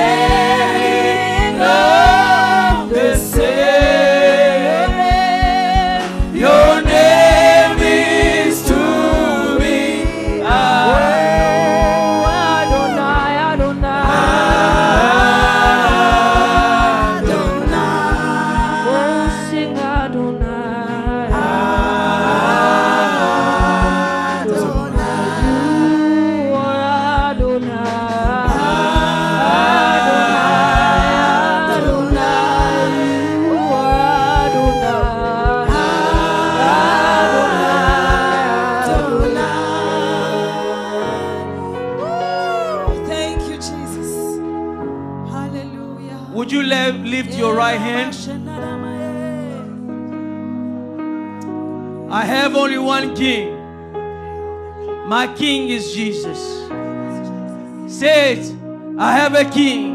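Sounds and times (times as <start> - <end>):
voices singing gospel song: 0.0 - 49.9, 55.0 - 59.9
instrumental accompaniment: 0.0 - 59.9.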